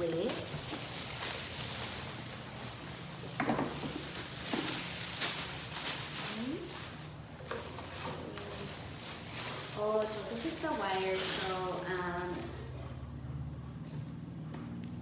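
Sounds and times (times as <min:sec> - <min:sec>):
plastic wrapping crinkling: 0:00.0 - 0:12.8.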